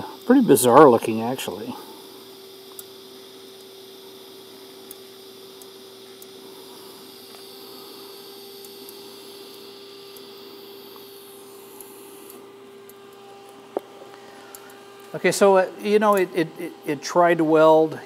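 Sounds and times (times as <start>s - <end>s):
steady hum: 0.0s - 18.0s
welding arc hissing: 0.0s - 18.0s.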